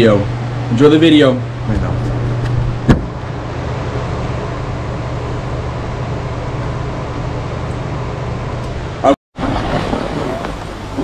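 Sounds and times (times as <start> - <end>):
low ventilation hum with hiss: 0.0 - 11.0.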